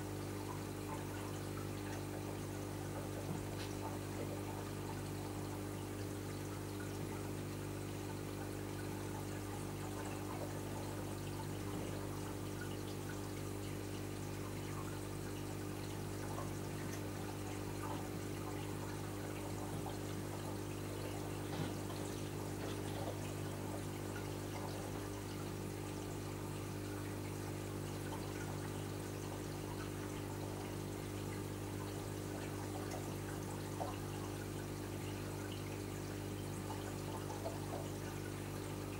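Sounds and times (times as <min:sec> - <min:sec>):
low electric pump hum: 0:00.0 - 0:38.9
water trickling and splashing: 0:00.0 - 0:38.9.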